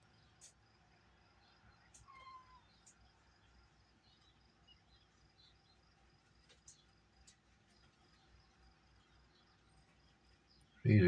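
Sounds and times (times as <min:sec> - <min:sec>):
faint ticks: 0:00.0 - 0:10.8.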